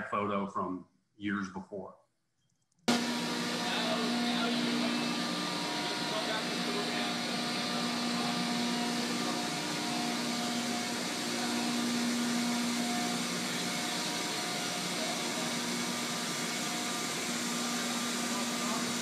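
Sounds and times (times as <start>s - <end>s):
industrial machinery hiss: 2.9s - 19.0s.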